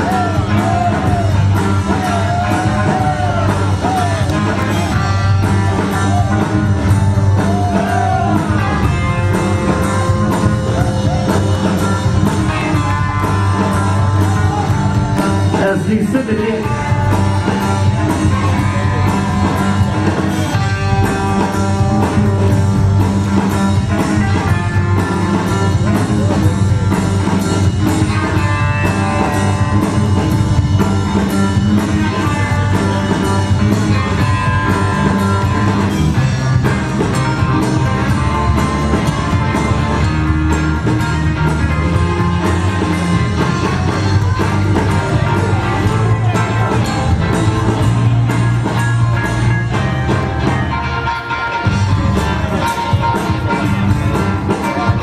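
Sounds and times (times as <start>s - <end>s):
loud music with drum beat: 0.0s - 55.0s.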